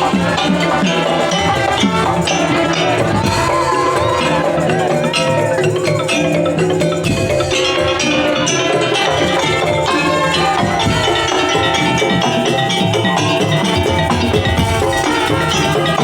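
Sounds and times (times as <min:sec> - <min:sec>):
percussion ensemble playing: 0:00.0 - 0:16.0.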